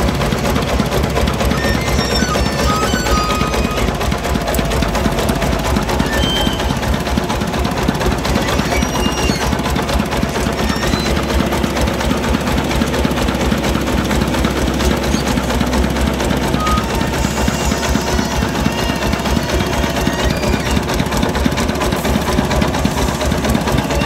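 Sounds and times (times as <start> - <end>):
diesel engine knocking: 0.0 - 24.0.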